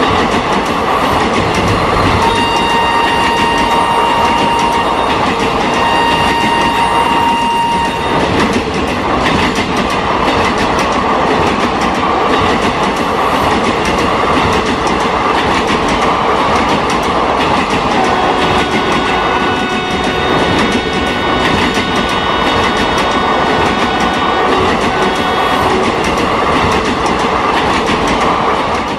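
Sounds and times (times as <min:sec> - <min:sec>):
model train rolling on track: 0:00.0 - 0:28.9.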